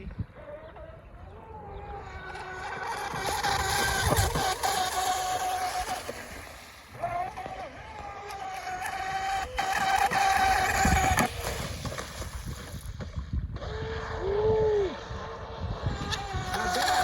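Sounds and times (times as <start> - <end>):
electric motor whining: 0.3 - 17.0.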